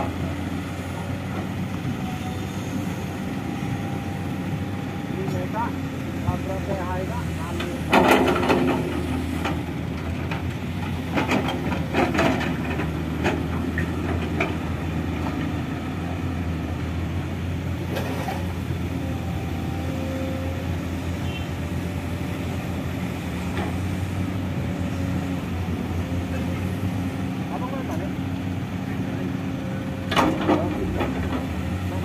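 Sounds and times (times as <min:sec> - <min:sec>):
diesel truck engines idling: 0:00.0 - 0:32.0.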